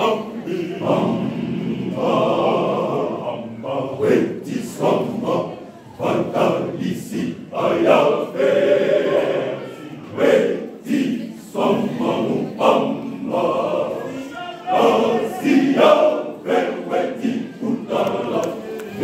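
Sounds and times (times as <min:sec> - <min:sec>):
men's choir singing: 0:00.0 - 0:19.0.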